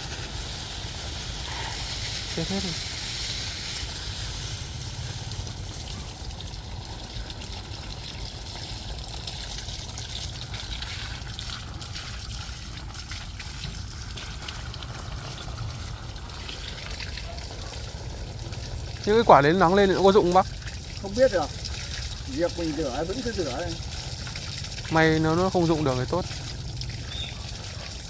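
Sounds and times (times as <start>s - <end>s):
small water splashes: 0.0s - 28.0s
water trickling and pouring: 0.0s - 28.0s.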